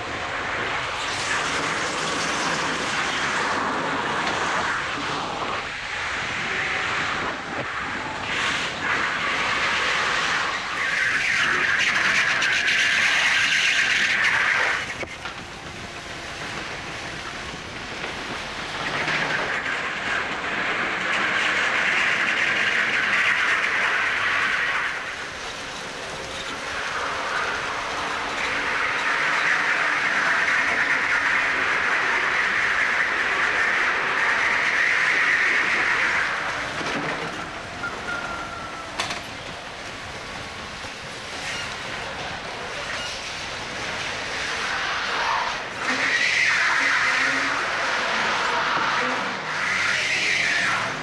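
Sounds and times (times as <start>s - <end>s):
go-kart engine and air noise: 0.0s - 51.0s.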